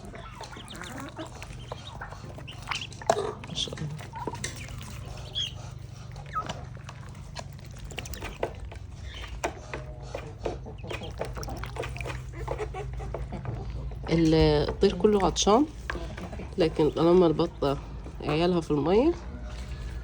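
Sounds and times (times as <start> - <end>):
chickens and ducks calling: 0.0 - 20.0.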